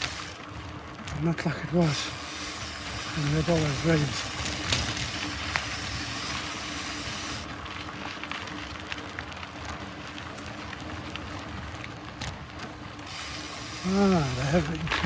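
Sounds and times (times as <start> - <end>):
mountain bike tyres on dirt: 0.0 - 15.0.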